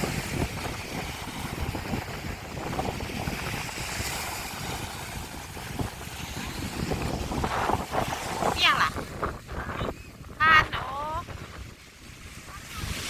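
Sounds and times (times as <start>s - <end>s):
sea waves washing on shore: 0.0s - 13.0s
strong wind buffeting microphone: 0.0s - 13.0s.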